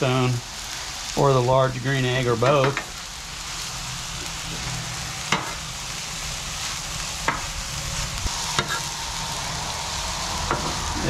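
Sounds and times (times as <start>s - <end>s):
cabbage sizzling on a griddle: 0.0s - 11.0s.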